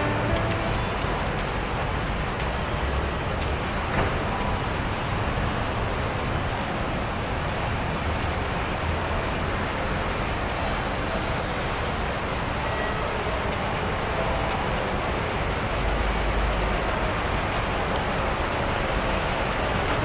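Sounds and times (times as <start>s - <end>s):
railway station din: 0.0s - 20.0s.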